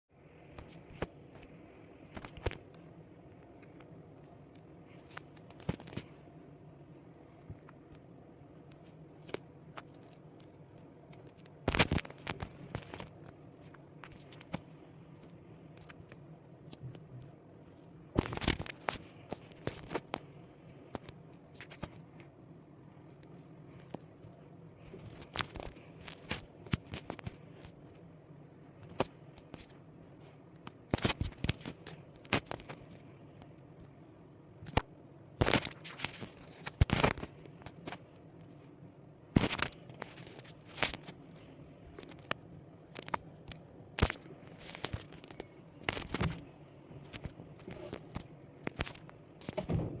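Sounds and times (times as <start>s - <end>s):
faint low hum: 0.1s - 50.0s.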